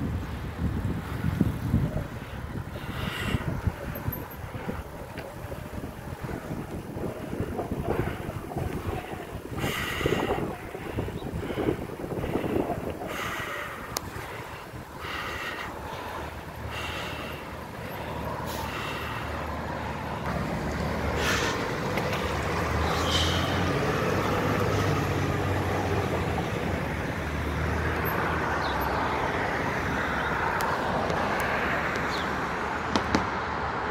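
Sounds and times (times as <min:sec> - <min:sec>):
street traffic: 0:00.0 - 0:33.9
diesel truck engine rumble: 0:00.1 - 0:32.7.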